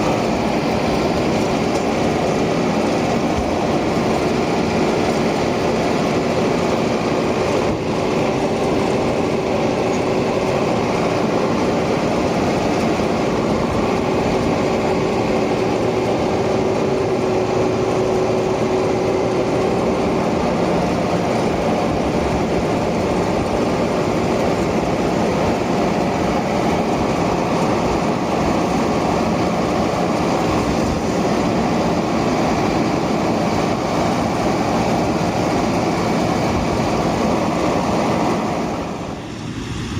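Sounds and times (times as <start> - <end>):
steady whine: 0.0 - 39.9
tractor diesel engine running: 0.0 - 39.9.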